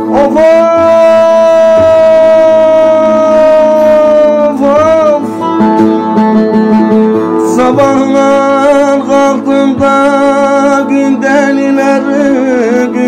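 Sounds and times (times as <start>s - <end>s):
man singing folk song: 0.0s - 13.0s
plucked long-necked lute: 0.0s - 13.0s.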